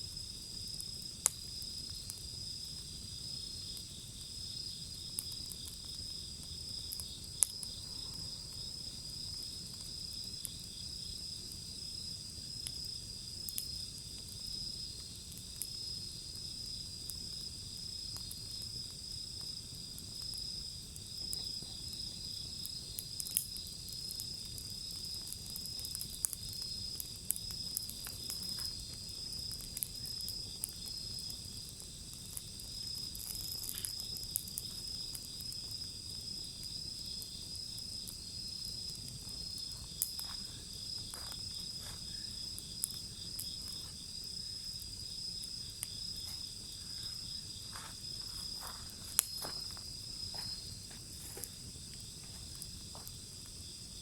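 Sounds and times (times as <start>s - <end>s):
insects chirring: 0.0s - 54.0s
wood fire crackling: 0.0s - 54.0s.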